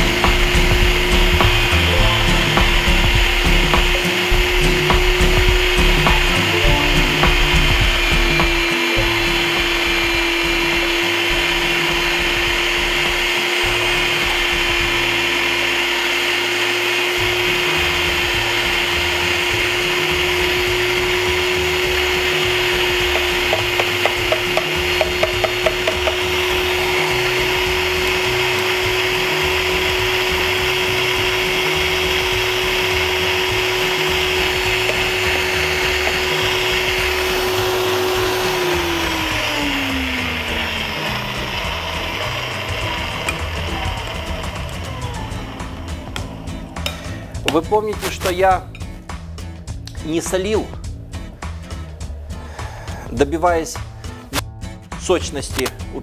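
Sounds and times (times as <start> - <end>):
electric meat grinder motor hum: 0.0 - 48.4.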